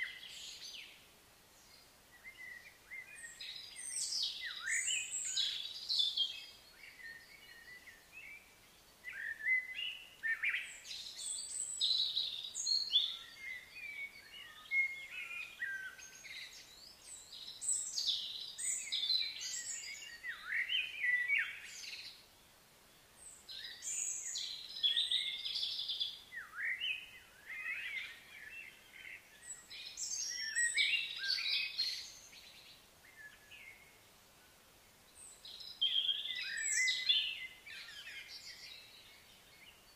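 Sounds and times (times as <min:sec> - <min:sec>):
birds singing and chirping: 0:01.6 - 0:22.3, 0:23.2 - 0:34.0, 0:35.2 - 0:39.9.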